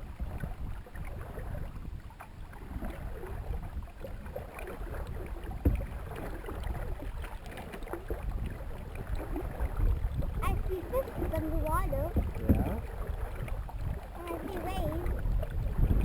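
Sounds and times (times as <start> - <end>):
paddle water splashes: 0.0 - 16.0
wind rumble on microphone: 0.0 - 16.0.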